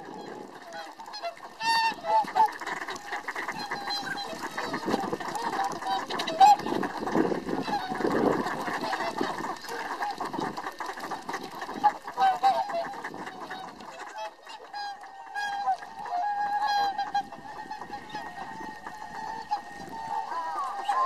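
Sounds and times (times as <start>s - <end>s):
swans honking: 0.0s - 21.0s.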